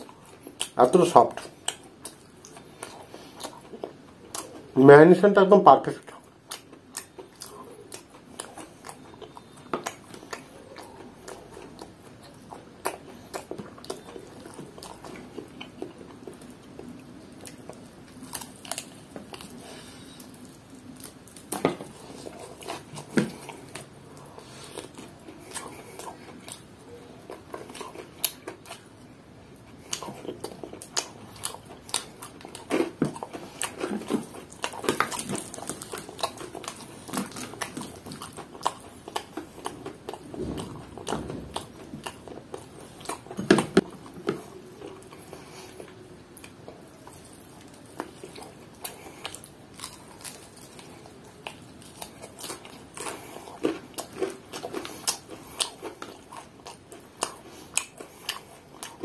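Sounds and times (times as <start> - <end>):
person chewing: 0.0 - 4.8, 6.0 - 59.0.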